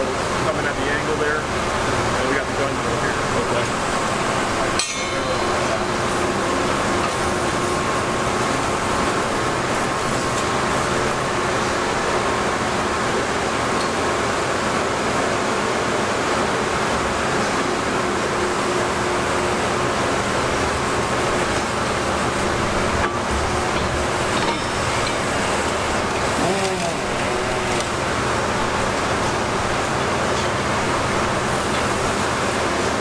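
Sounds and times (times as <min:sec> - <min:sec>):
machine tools running: 0:00.0 - 0:33.0.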